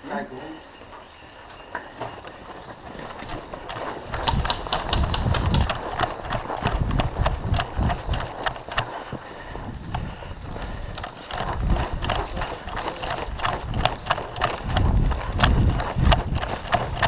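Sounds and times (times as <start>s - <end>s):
running footsteps: 0.6s - 17.0s
kit rattling: 2.4s - 17.0s
heavy rumbling on microphone: 3.1s - 17.0s.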